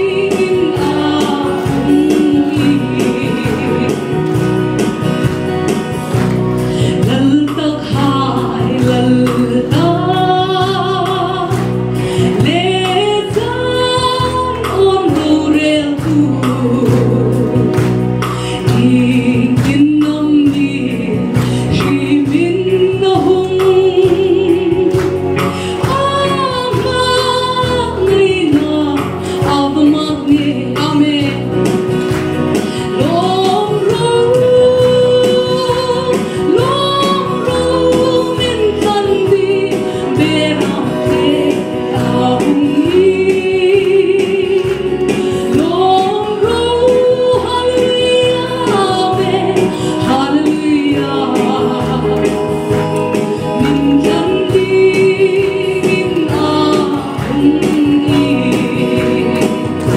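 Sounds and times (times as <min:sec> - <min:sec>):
instrumental accompaniment with beat: 0:00.0 - 0:59.9
woman singing into microphone: 0:00.0 - 0:59.9.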